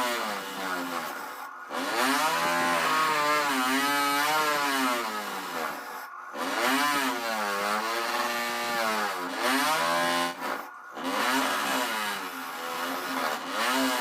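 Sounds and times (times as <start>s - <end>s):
power tool motor running: 0.0s - 14.0s.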